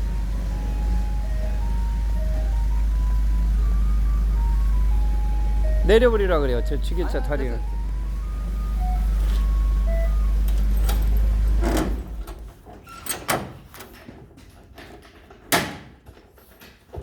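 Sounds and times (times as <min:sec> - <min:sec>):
forklift engine running: 0:00.0 - 0:15.0.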